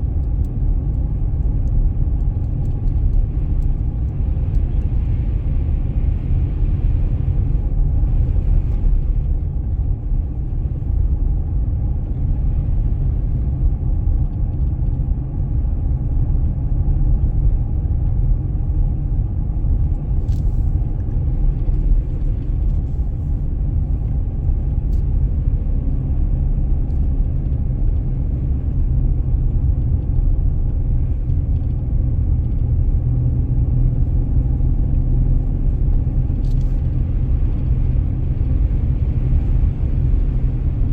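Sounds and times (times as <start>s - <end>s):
engine and tyres rumbling: 0.0s - 40.9s.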